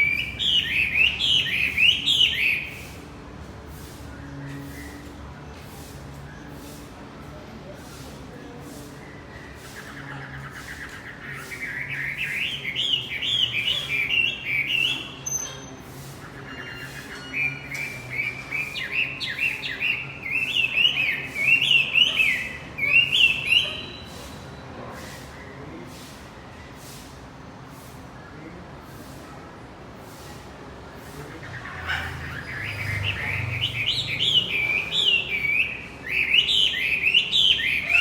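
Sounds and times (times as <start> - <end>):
songbird chirping song: 0.0 - 3.1, 7.9 - 28.6, 30.1 - 38.0.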